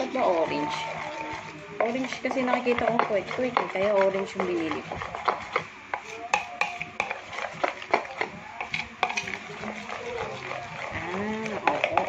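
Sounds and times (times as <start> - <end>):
batter stirred in plastic bowl: 0.0 - 12.0.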